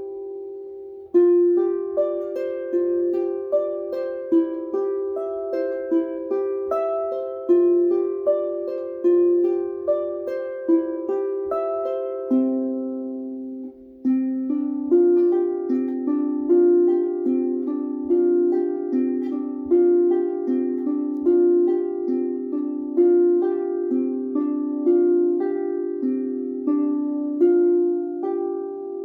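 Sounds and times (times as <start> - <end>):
harp melody: 0.0 - 29.0.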